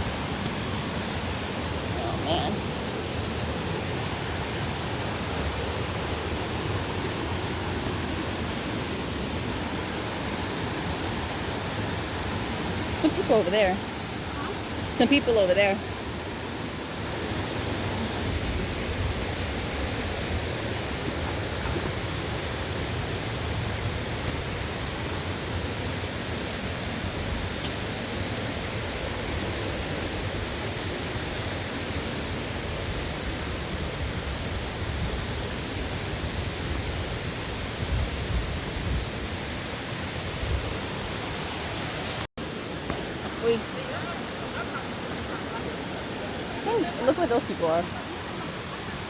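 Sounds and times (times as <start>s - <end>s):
rushing stream and waterfall: 0.0s - 49.0s.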